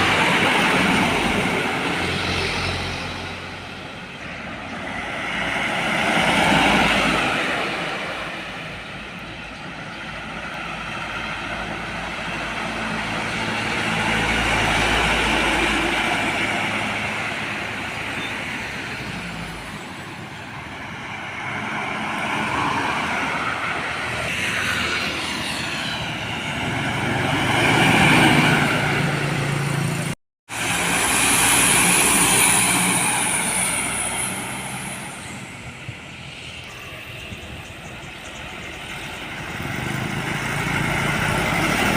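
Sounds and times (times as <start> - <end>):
heavy vehicles driving past: 0.0 - 41.9.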